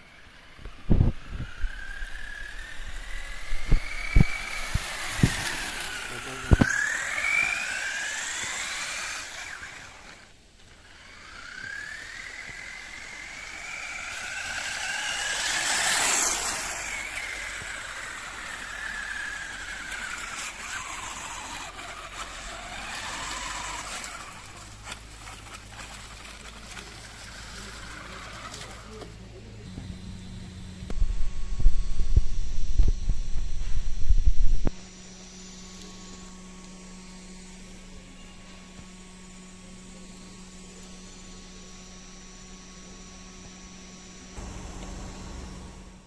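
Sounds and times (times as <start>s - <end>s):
electric motor and gears whining: 0.0s - 46.0s.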